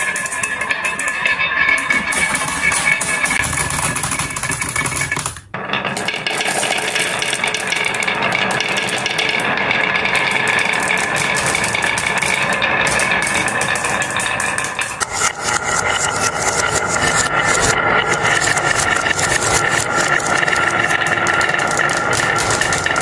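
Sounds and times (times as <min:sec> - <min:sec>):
marbles clattering into plastic truck: 0:00.0 - 0:15.1, 0:16.5 - 0:23.0
marbles rolling down wooden slope: 0:00.0 - 0:23.0.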